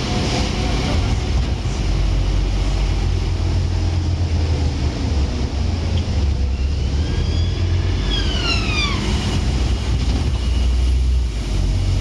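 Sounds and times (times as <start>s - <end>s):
diesel bus engine rumble: 0.0s - 12.0s.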